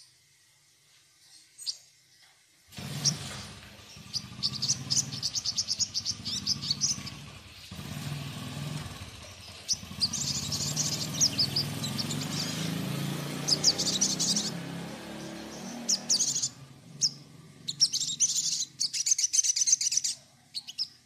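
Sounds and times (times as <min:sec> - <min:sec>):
bird chirping: 0:01.2 - 0:21.0.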